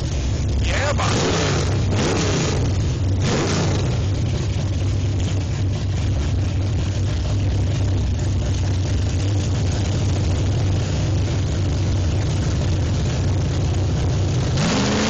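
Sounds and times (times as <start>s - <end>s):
car engine idling loudly: 0.0s - 15.0s.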